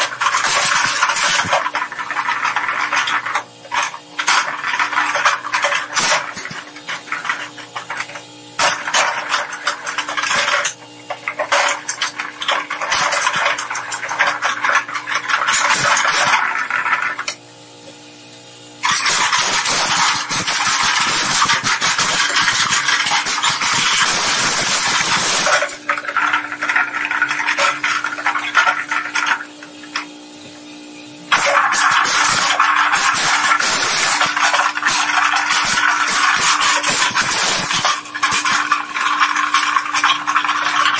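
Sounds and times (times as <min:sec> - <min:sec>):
shredder crushing hard plastic: 0:00.0 - 0:17.4, 0:18.8 - 0:30.2, 0:31.3 - 0:40.9
shredder motor humming: 0:00.0 - 0:40.9.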